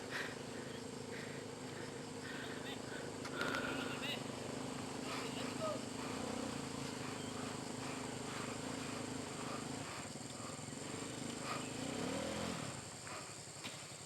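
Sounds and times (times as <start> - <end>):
high insect drone: 0.0 - 14.0
motorcycle engine running: 0.0 - 14.0.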